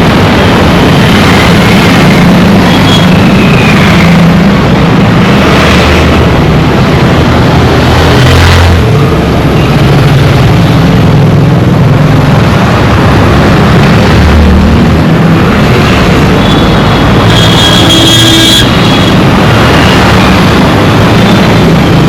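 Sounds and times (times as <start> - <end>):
dense road traffic: 0.0 - 22.0.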